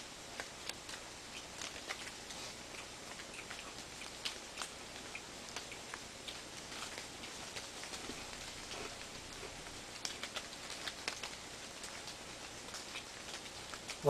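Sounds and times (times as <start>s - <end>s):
faint steady hiss: 0.0s - 14.0s
wood fire crackling: 0.0s - 14.0s.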